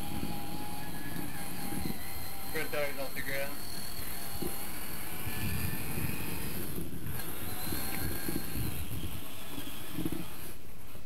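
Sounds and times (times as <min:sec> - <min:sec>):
electric motor whine: 0:00.0 - 0:11.0
small wheels rolling on concrete: 0:00.0 - 0:11.0.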